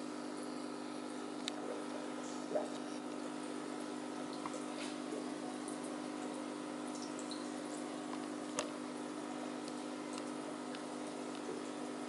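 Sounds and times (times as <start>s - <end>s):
aquarium pump humming: 0.0s - 12.0s
water trickling and dripping: 0.2s - 12.0s.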